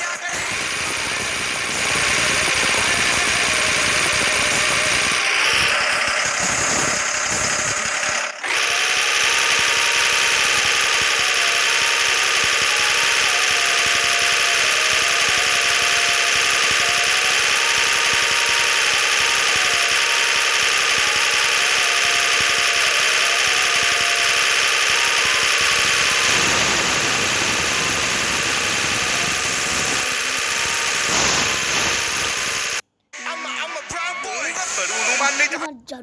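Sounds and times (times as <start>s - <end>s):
tractor engine running under load: 0.3s - 32.8s.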